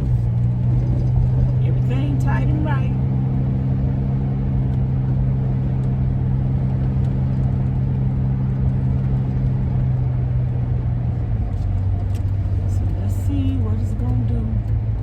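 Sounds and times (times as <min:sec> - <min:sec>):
road rumble: 0:00.0 - 0:15.0.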